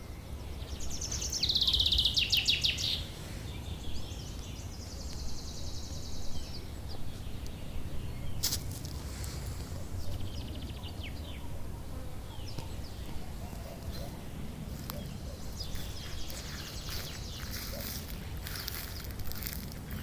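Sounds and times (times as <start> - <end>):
nightingale singing: 0.0 - 8.6, 12.3 - 20.0.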